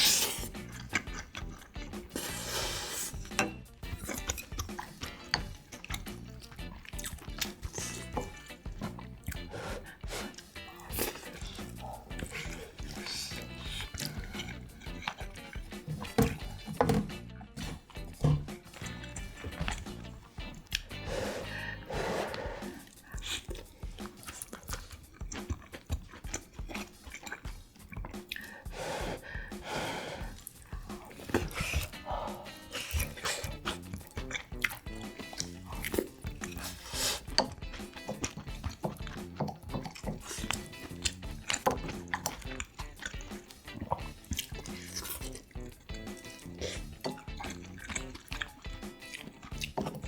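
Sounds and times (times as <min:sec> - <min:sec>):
background music: 0:00.0 - 0:50.0
person chewing food: 0:00.0 - 0:50.0
wet clicks and drips: 0:00.4 - 0:02.3, 0:03.1 - 0:21.7, 0:22.3 - 0:29.6, 0:30.2 - 0:50.0.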